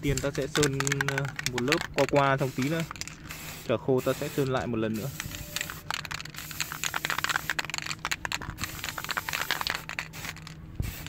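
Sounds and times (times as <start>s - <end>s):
rapid irregular clicks: 0.0s - 3.4s, 5.2s - 10.6s
aerosol spray can hissing: 0.5s - 11.0s.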